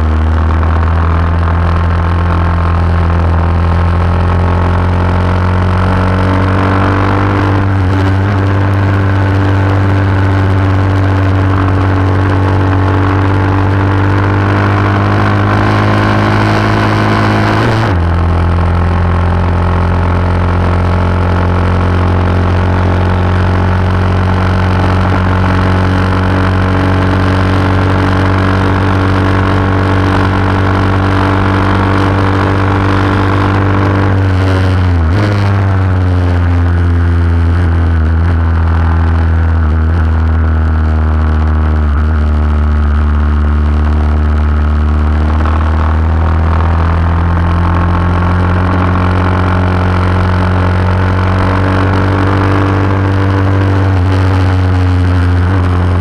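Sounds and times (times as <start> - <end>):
racing motorcycle engine revving: 0.0 - 56.0.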